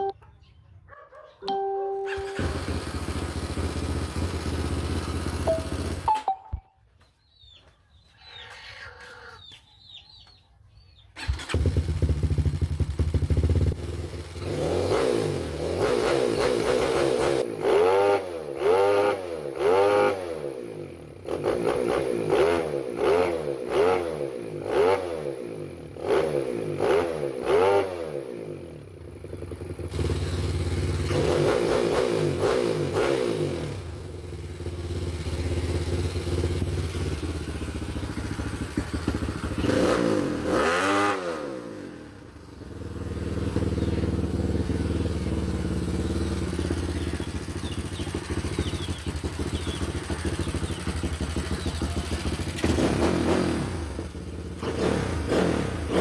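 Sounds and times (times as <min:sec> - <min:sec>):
motorcycle engine revving: 0:02.1 - 0:06.1, 0:11.2 - 0:56.0.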